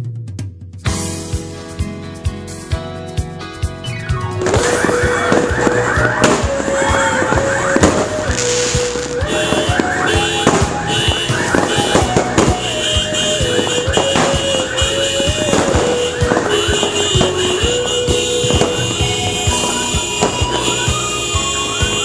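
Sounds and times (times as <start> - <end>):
music with held melody: 0.9 - 22.0
fireworks banging and crackling: 4.1 - 22.0.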